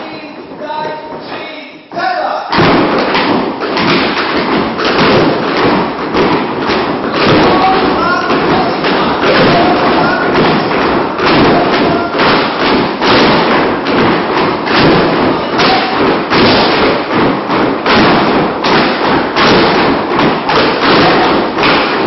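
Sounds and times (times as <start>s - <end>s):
clogs dancing on wooden floor: 0.0s - 22.0s.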